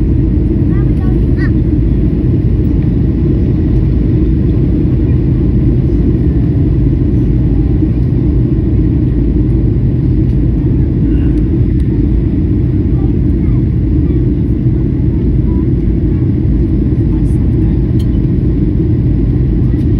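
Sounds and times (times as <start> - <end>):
airliner cabin engine rumble: 0.0 - 19.9.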